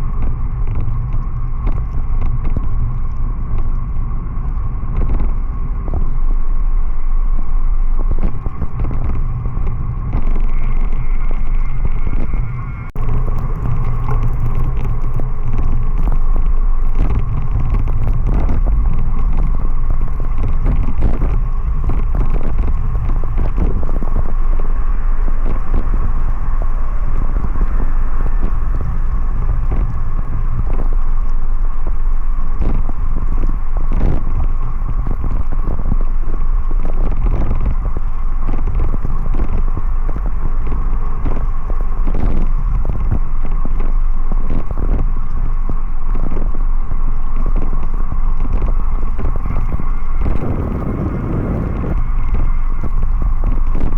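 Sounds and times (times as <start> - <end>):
crackles: 0.0 - 53.9
road noise: 0.0 - 53.9
thin whine: 0.0 - 53.9
wind buffeting microphone: 0.0 - 53.9.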